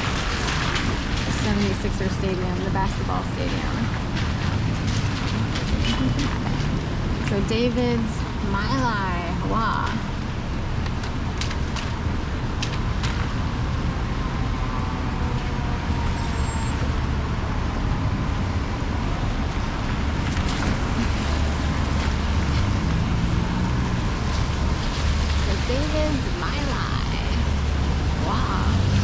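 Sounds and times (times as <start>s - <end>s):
traffic rumble with tyre hiss: 0.0s - 29.0s.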